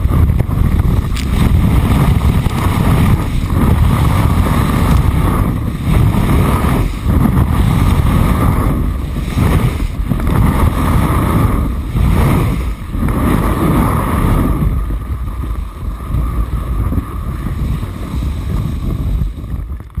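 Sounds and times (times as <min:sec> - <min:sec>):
skis scraping on snow: 0:00.0 - 0:20.0
wind rushing over microphone: 0:00.0 - 0:20.0.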